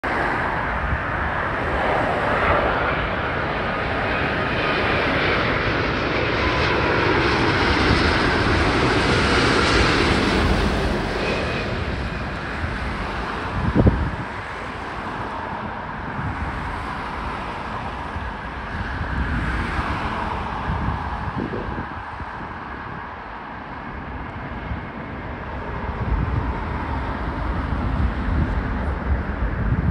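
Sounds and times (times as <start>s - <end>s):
jet airliner engines: 0.0s - 29.9s.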